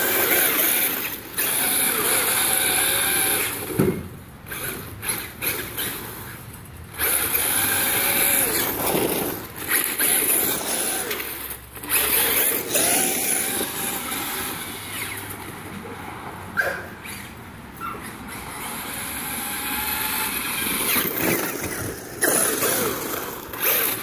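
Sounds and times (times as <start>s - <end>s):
rc truck motor whining: 0.0s - 15.5s, 16.6s - 24.0s
tyres running on concrete: 0.0s - 16.0s, 16.6s - 24.0s.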